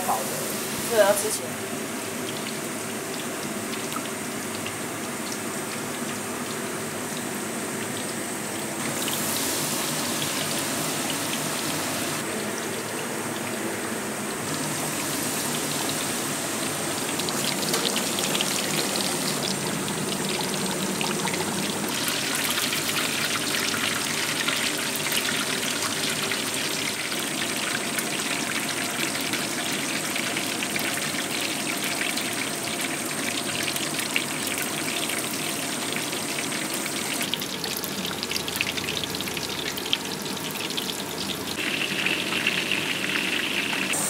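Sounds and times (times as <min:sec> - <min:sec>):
oil sizzling in a wok: 0:00.0 - 0:44.0.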